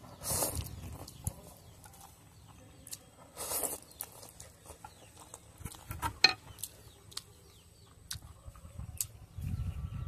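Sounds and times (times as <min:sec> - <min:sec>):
man chewing noodles: 0:00.0 - 0:05.9, 0:06.6 - 0:09.3.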